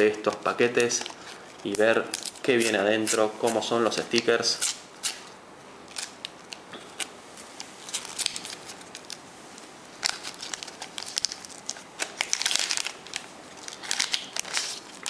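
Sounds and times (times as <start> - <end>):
wrapper crinkling and tearing: 0.0 - 5.2, 5.9 - 7.1, 7.8 - 9.2, 9.9 - 15.0.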